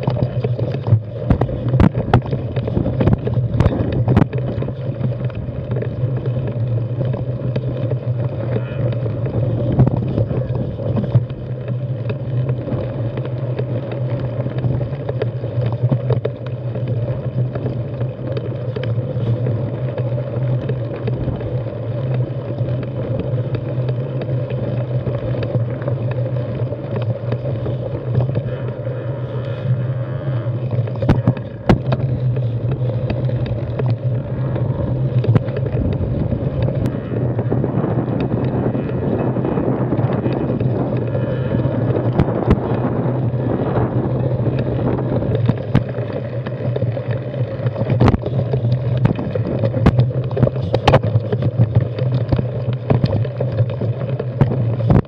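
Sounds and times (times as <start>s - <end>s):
bike knocking and rattling on rocks: 0.0s - 55.0s
bike tyres rumbling on dirt: 0.0s - 55.0s
wind on microphone: 0.0s - 55.0s.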